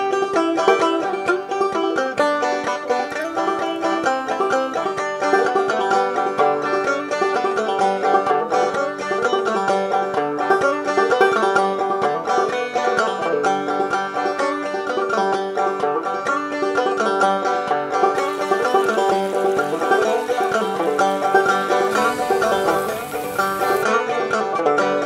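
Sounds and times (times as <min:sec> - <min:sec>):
banjo picking: 0:00.0 - 0:25.0.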